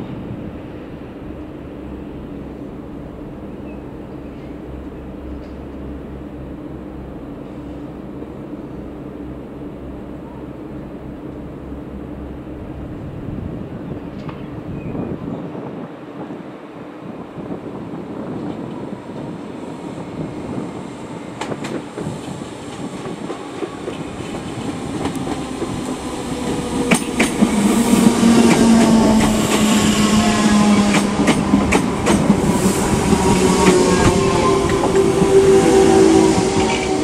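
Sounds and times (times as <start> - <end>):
electric train rumbling: 0.0 - 37.0.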